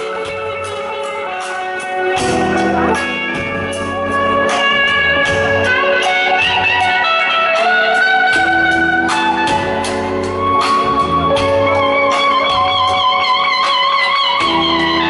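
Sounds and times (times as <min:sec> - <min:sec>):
electric guitar long held notes: 0:00.0 - 0:15.0
live band music: 0:00.0 - 0:15.0.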